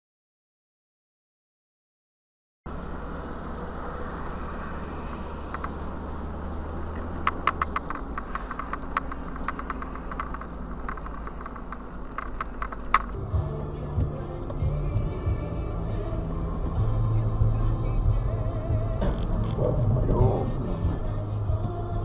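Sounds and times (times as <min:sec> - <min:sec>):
road noise inside moving car: 0:02.7 - 0:22.0.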